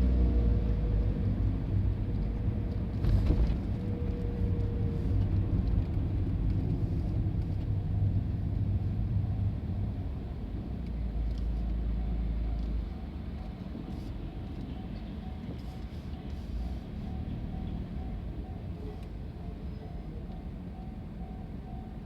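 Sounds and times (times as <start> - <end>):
diesel engine drone: 0.0 - 22.0
wheels rumbling on rails: 0.0 - 22.0.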